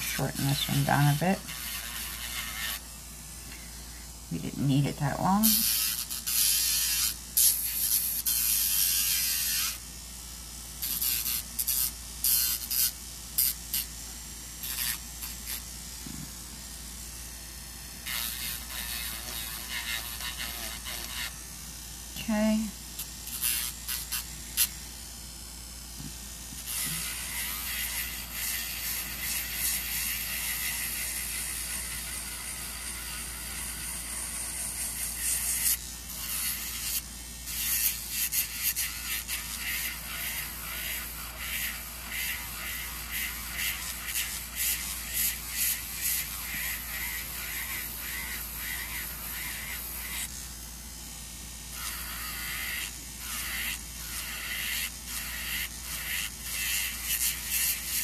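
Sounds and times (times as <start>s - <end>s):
electric nail drill grinding: 0.0s - 58.0s.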